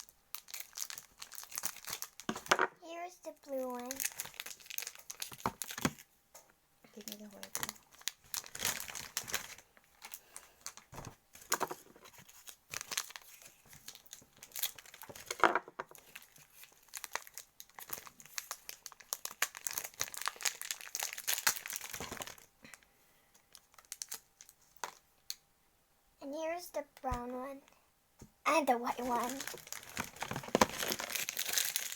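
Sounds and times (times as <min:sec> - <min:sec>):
plastic packaging crinkling: 0:00.0 - 0:02.8, 0:03.4 - 0:06.0, 0:07.0 - 0:22.8, 0:23.4 - 0:25.0, 0:28.8 - 0:31.9.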